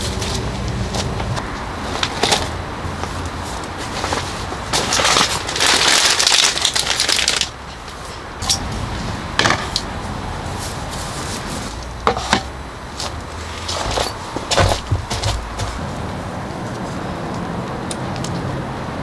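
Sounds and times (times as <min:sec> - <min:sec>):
crinkling rustling handling noise: 0:00.0 - 0:17.4.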